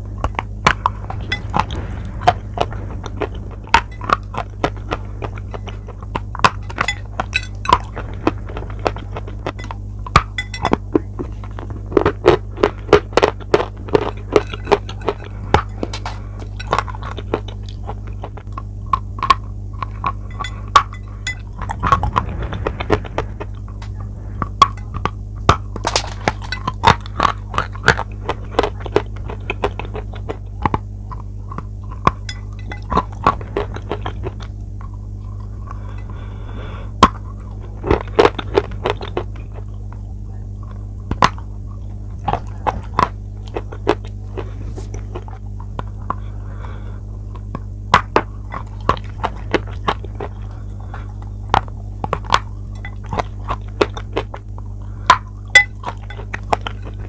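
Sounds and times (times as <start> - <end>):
chewing crunchy chalk: 0.0 - 57.0
low electrical hum: 0.0 - 57.0.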